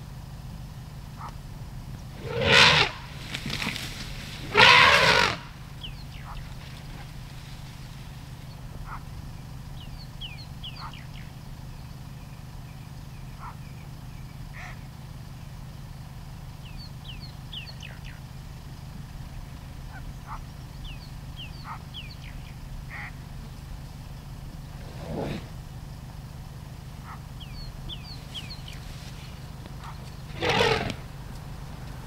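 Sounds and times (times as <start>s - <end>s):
steady low hum: 0.0s - 32.0s
birds chirping: 1.0s - 32.0s.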